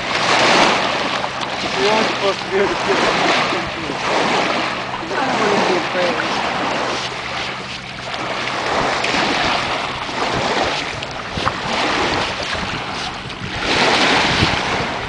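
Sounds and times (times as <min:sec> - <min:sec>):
lake waves washing on shore: 0:00.0 - 0:15.0
wind buffeting microphone: 0:00.0 - 0:15.0.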